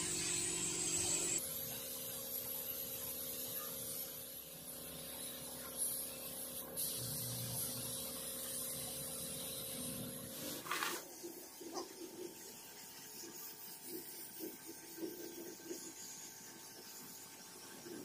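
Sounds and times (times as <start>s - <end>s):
paint spray gun hissing: 0.0s - 18.0s.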